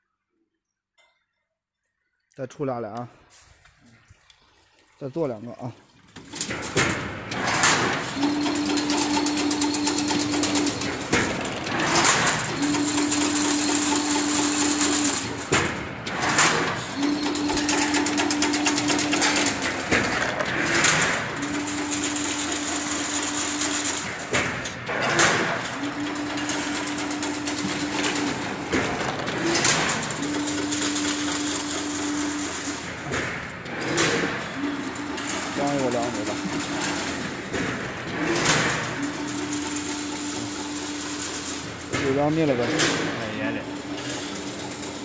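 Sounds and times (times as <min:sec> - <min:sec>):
motor humming: 0:07.2 - 0:45.0.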